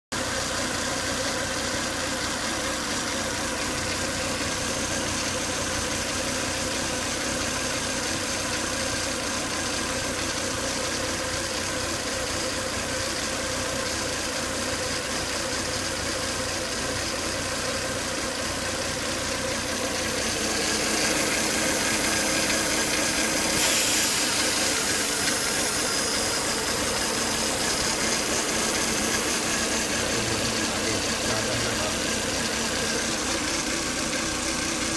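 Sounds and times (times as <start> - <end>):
car engine running with whine: 0.1 - 34.9.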